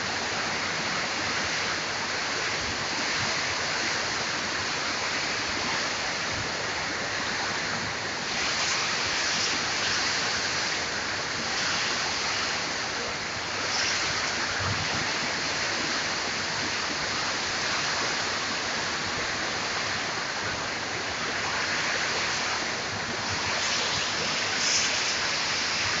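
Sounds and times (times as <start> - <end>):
heavy rain pouring: 0.0 - 26.0
strong wind through trees: 0.0 - 26.0.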